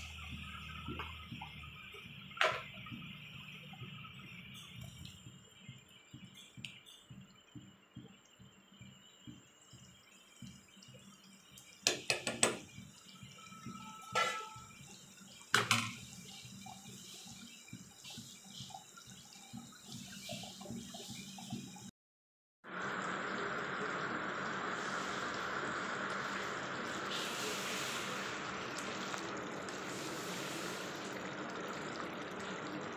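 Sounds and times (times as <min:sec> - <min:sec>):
thick gravy bubbling in a pan: 0:00.0 - 0:21.9, 0:22.7 - 0:32.9.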